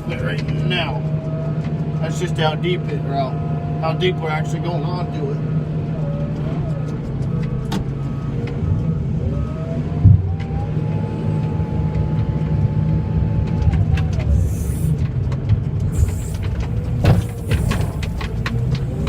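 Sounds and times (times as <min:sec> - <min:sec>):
tractor engine running: 0:00.0 - 0:19.0
whine: 0:00.0 - 0:19.0.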